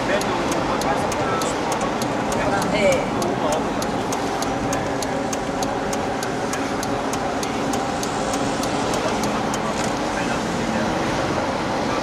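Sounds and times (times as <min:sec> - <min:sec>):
turn signal ticking: 0:00.0 - 0:10.1
car engine and tyre noise: 0:00.0 - 0:12.0.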